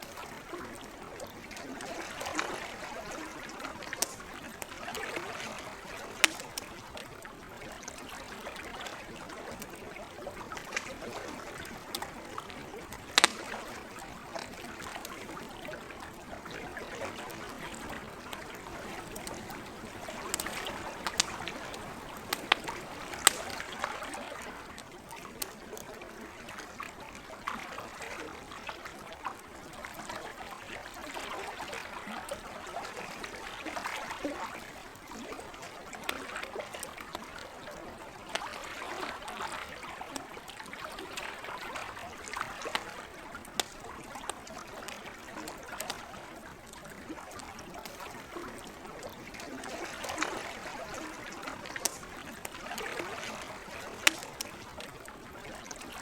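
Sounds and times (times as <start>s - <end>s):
campfire crackling and popping: 0.0s - 26.8s, 30.7s - 56.0s
trickling water: 0.0s - 56.0s.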